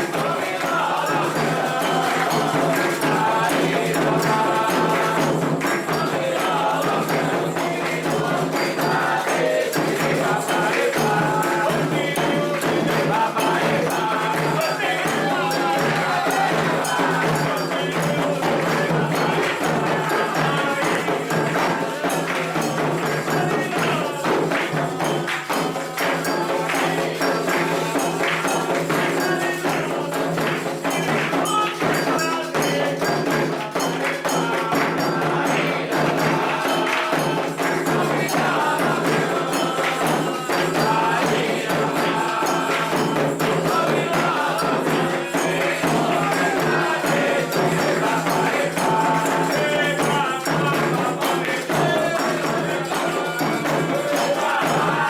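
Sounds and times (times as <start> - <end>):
hand drums and metal percussion: 0.0 - 55.0
voices singing a chant: 0.0 - 55.0.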